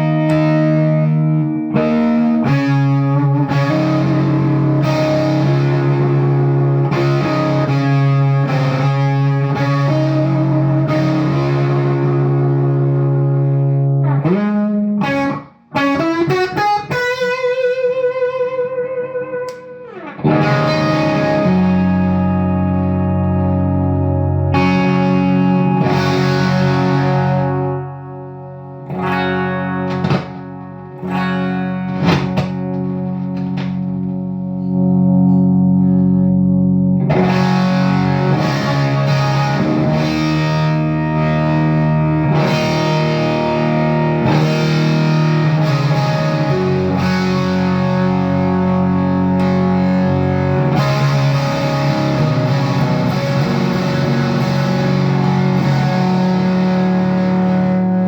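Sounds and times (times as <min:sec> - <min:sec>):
distorted electric guitar chords: 0:00.0 - 0:58.0.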